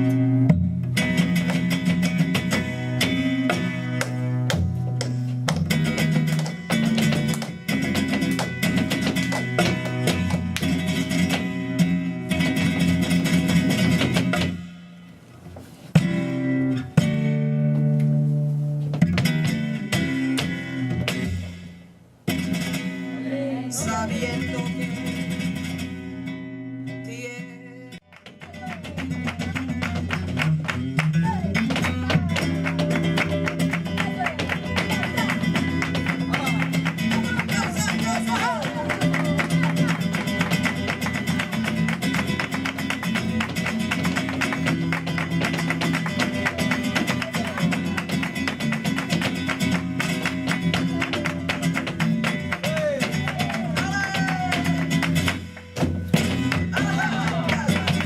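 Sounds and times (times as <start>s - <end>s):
flamenco guitar: 0.0s - 58.0s.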